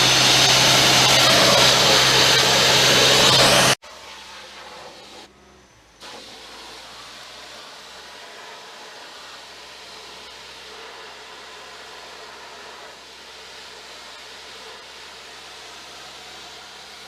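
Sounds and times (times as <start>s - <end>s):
sandblaster hissing: 0.0s - 5.3s, 6.0s - 17.0s.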